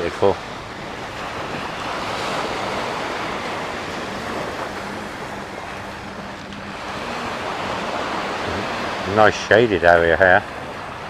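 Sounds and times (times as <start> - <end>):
small waves washing on sand: 0.0 - 11.0
wind on microphone: 0.0 - 11.0.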